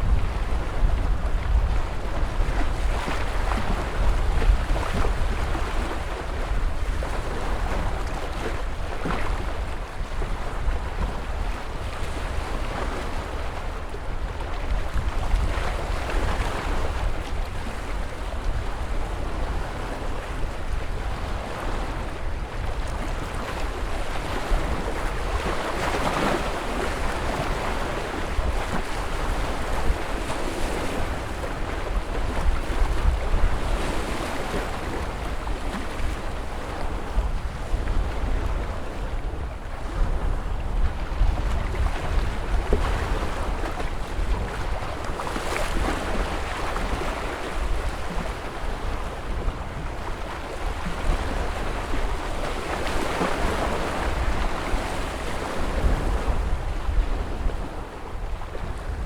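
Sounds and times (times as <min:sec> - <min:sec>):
wind rumble on microphone: 0:00.0 - 0:59.0
ocean waves breaking: 0:11.1 - 0:59.0.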